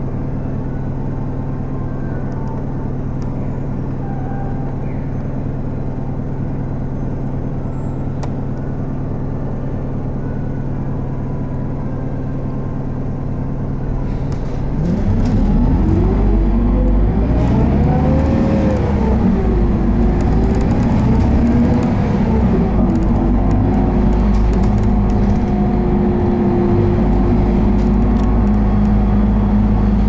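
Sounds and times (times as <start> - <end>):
bus diesel engine idling: 0.0 - 30.0
bus engine accelerating: 0.0 - 30.0.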